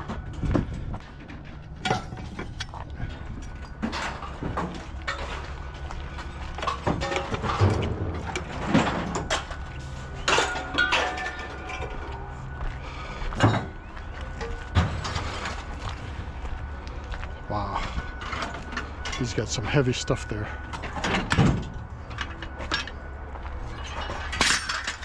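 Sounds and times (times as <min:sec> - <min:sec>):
scrap metal clanking: 0:00.0 - 0:12.3, 0:14.4 - 0:16.2, 0:17.9 - 0:25.0
steady low hum: 0:00.0 - 0:25.0.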